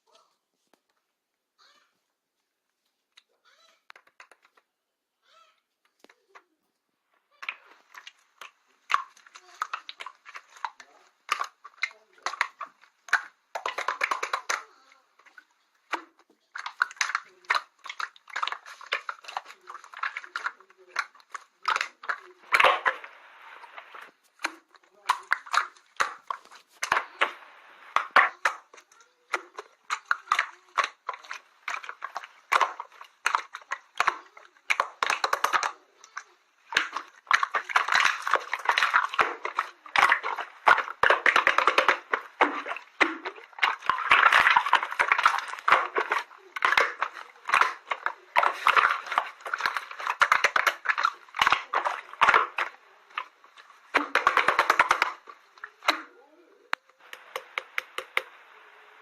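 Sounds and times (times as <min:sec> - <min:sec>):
slime crackling and popping: 0:07.4 - 0:56.1.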